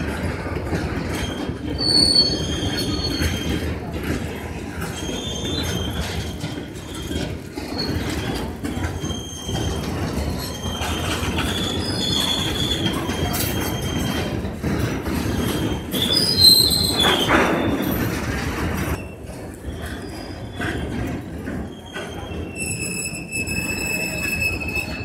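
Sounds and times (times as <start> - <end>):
train wheels rumbling on rail: 0.0 - 25.0
high wheel squeals: 0.1 - 25.0.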